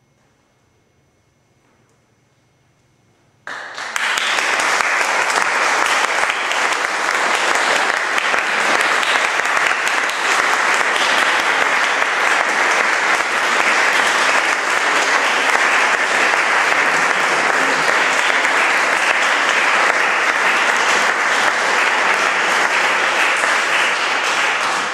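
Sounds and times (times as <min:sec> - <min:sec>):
audience applause: 0:03.5 - 0:24.9.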